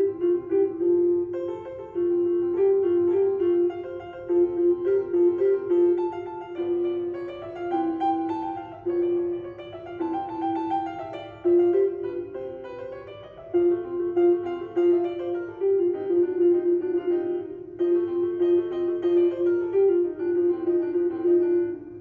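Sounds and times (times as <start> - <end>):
piano melody: 0.0 - 22.0.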